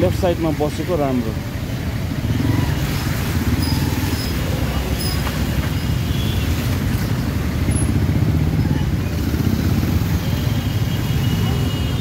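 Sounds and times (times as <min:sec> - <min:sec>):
road and traffic noise: 0:00.0 - 0:12.0
motorcycle engine rumbling: 0:01.3 - 0:12.0.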